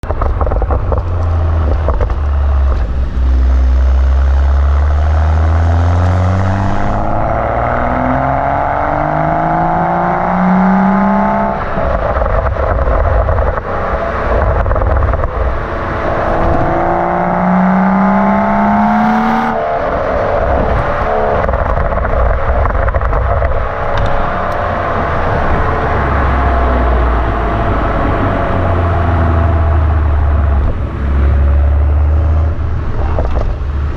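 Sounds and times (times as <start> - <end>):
car exhaust rumbling and revving: 0.0 - 33.9.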